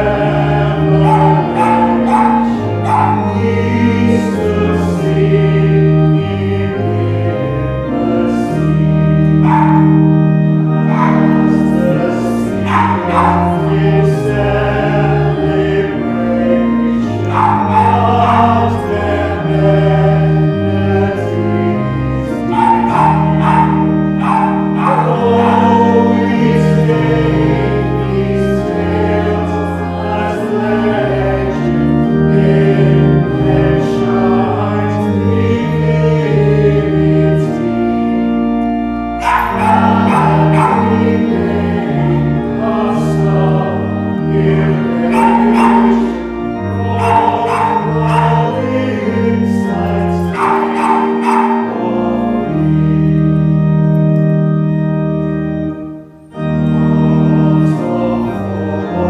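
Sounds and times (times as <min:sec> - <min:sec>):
congregation singing a hymn: 0:00.0 - 0:59.0
pipe organ chords: 0:00.0 - 0:59.0.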